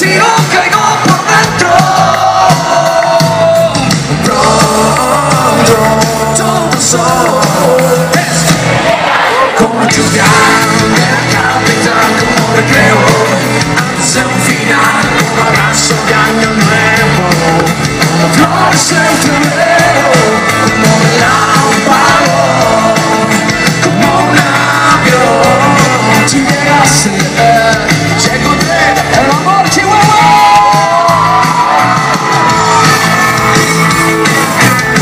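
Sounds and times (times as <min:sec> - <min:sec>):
drums: 0:00.0 - 0:35.0
electric guitar: 0:00.0 - 0:35.0
person singing: 0:00.0 - 0:35.0.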